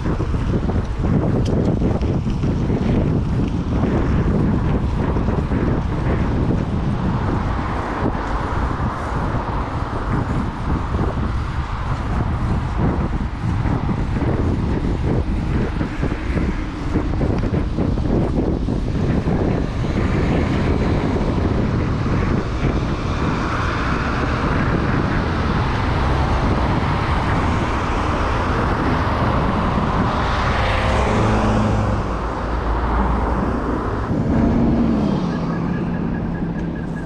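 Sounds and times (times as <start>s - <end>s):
road traffic noise: 0.0s - 37.0s
wind rushing over microphone: 0.0s - 37.0s.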